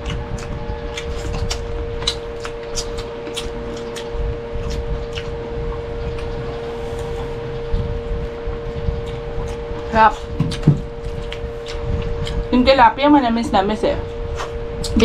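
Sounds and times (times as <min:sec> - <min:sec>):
chewing and lip smacks: 0:00.0 - 0:12.8, 0:14.3 - 0:15.0
steady hum: 0:00.0 - 0:15.0.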